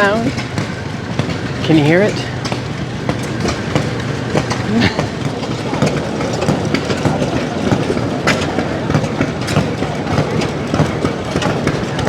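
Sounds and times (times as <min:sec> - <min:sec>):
old engine running: 0:00.0 - 0:12.0.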